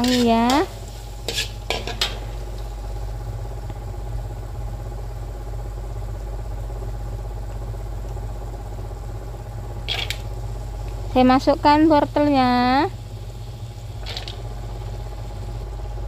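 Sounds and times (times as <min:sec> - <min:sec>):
paste sauteing in oil: 0:00.0 - 0:05.9, 0:07.8 - 0:16.0.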